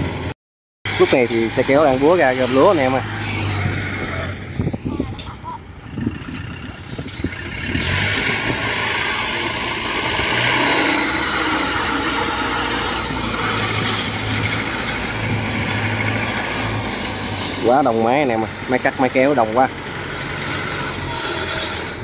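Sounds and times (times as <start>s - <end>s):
small diesel engine running: 0.9s - 5.0s, 5.6s - 22.0s
tracked cart clattering: 0.9s - 22.0s.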